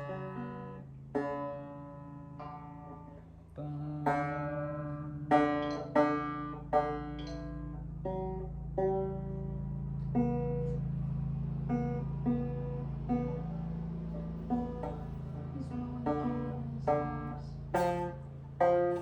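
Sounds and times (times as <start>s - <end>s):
banjo notes plucked: 0.0s - 19.0s
low banjo string droning: 0.0s - 19.0s.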